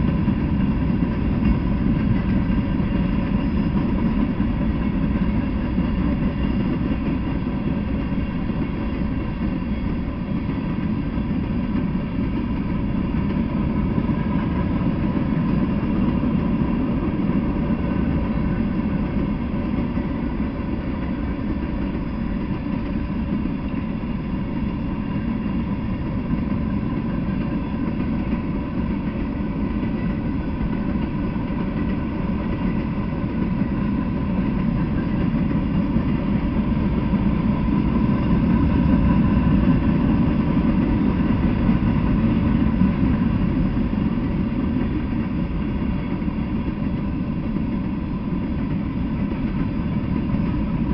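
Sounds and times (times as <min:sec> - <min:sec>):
freight train wheels rumbling: 0:00.0 - 0:50.9.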